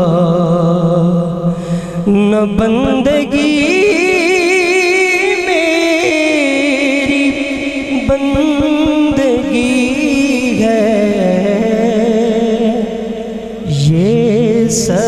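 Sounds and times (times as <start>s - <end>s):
man singing over a pa: 0.0s - 15.0s.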